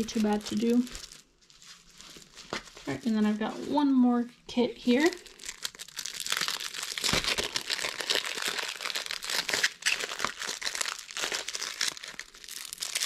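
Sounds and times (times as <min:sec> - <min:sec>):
plastic packaging crinkling: 0:00.0 - 0:03.4, 0:04.9 - 0:13.0.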